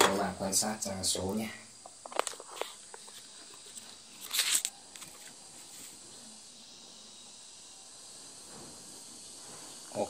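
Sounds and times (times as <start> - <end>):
faint background hiss: 0.0 - 10.0
thin high-pitched whine: 0.0 - 10.0.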